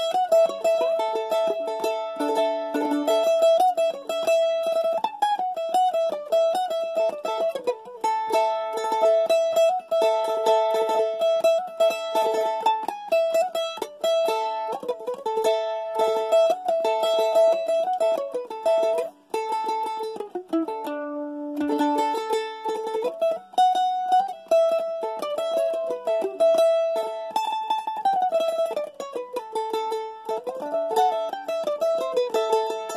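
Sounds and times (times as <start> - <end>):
mandolin melody picked: 0.0 - 32.9.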